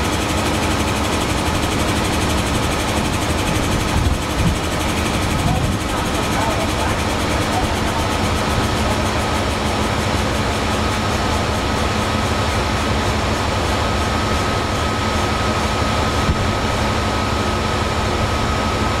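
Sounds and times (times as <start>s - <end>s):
locomotive air compressor running: 0.0s - 19.0s
locomotive engine running: 0.0s - 19.0s.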